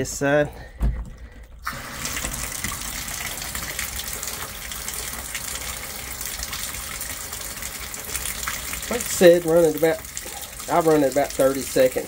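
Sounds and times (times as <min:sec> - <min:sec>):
water gushing into a tub: 0:01.3 - 0:12.0.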